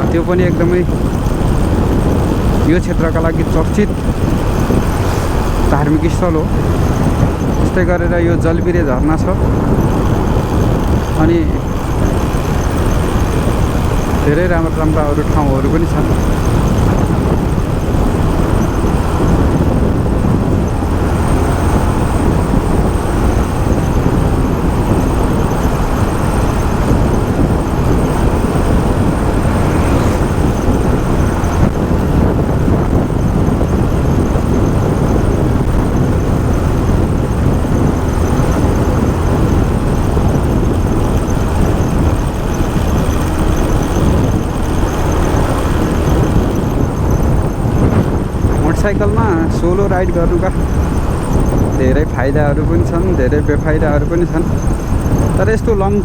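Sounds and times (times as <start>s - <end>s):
motorcycle engine: 0.0s - 56.0s
wind noise on microphone: 0.0s - 56.0s.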